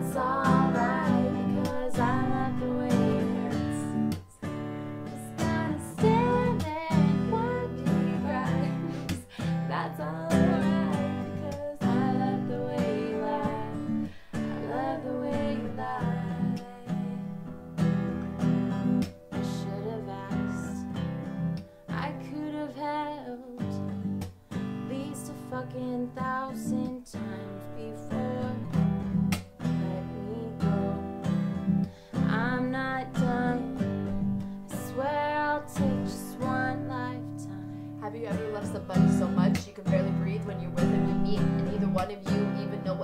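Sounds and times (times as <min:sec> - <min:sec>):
women singing: 0:00.0 - 0:04.4, 0:05.0 - 0:17.5, 0:19.4 - 0:21.0, 0:21.9 - 0:24.1, 0:24.9 - 0:29.0, 0:29.7 - 0:31.3, 0:32.2 - 0:43.0
acoustic guitar strumming: 0:00.0 - 0:43.0.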